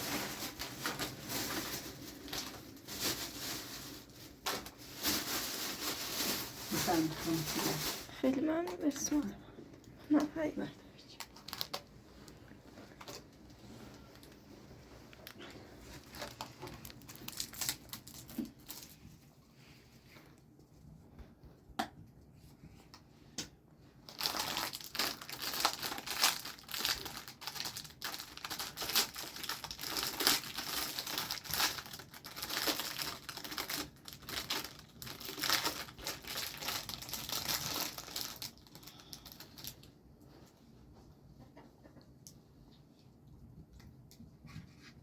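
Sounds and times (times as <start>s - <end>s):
crinkling rustling handling noise: 0.0s - 20.8s, 23.9s - 41.0s.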